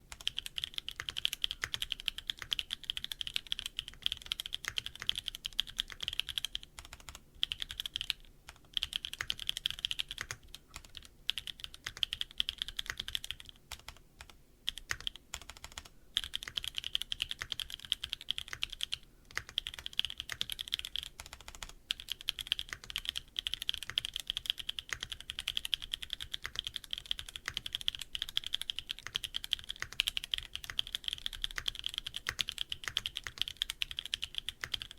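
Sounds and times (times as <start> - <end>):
mechanical keyboard typing: 0.1 - 34.9.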